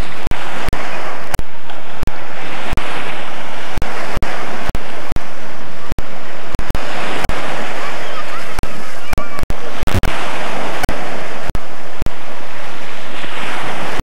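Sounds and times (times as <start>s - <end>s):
surf washing onto beach: 0.0s - 14.0s
wind on microphone: 0.0s - 14.0s.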